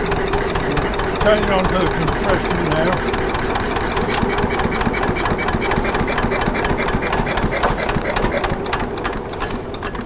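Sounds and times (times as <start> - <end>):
marine engine knocking steadily: 0.0 - 10.0.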